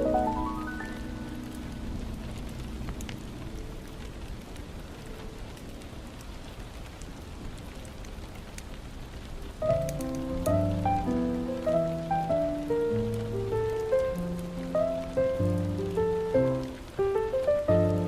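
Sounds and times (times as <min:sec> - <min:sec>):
small sharp crackles: 0:00.0 - 0:18.0
soft hiss: 0:00.0 - 0:18.0.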